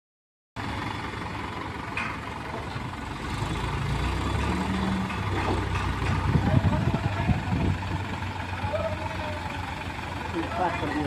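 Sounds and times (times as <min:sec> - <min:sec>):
diesel engine running: 0:00.6 - 0:11.0.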